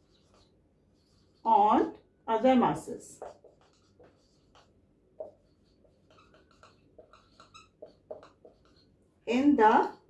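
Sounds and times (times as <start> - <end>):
marker writing on whiteboard: 0.0 - 10.0.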